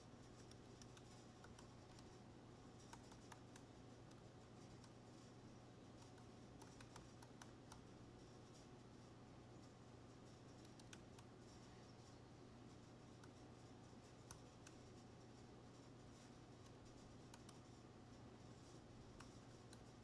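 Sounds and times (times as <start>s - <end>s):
low steady hum: 0.0s - 20.0s
keyboard typing: 0.2s - 5.3s, 6.0s - 8.6s, 10.2s - 11.8s, 12.7s - 20.0s.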